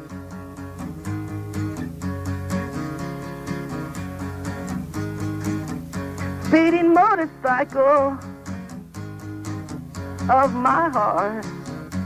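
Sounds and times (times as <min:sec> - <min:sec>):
guitar strumming: 0:00.0 - 0:12.0.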